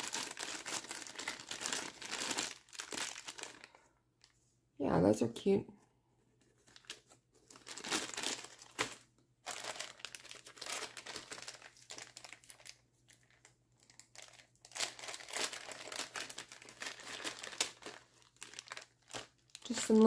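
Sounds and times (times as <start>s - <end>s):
plastic bags crinkling: 0.0s - 4.3s, 6.6s - 20.0s.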